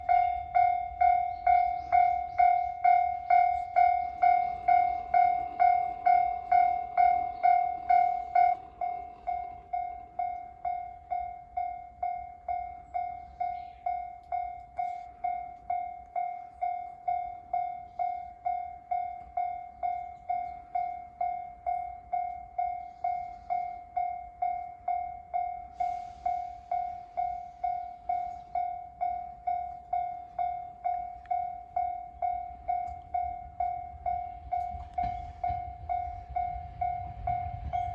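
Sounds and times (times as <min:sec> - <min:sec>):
level-crossing warning bell: 0:00.0 - 0:37.9.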